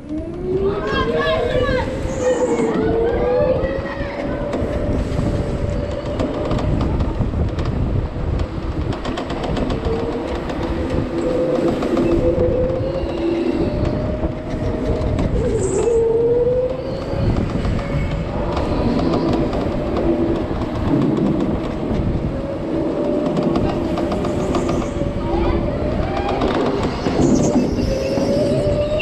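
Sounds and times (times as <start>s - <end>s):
tyres rumbling on track: 0.0s - 29.0s.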